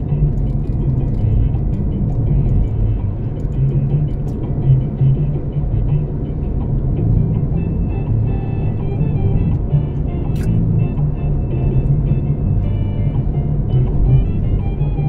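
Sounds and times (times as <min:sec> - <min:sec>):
music on car radio: 0:00.0 - 0:15.0
road and engine rumble: 0:00.0 - 0:15.0.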